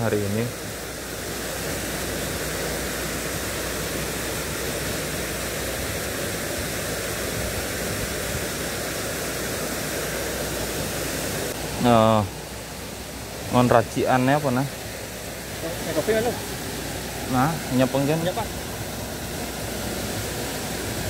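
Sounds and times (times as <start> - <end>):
waterfall pouring into a pool: 0.0 - 21.0.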